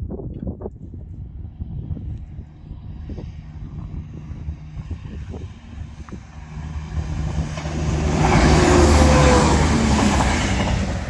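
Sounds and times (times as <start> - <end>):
diesel train passing at speed: 1.2 - 11.0.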